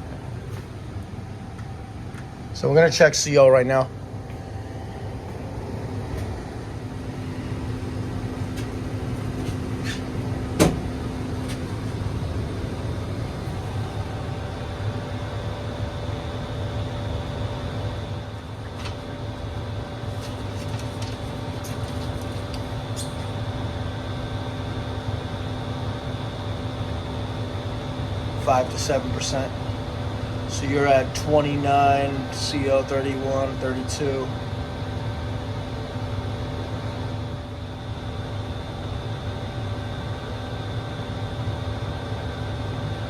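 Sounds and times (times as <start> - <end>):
gas furnace humming: 0.0 - 43.0.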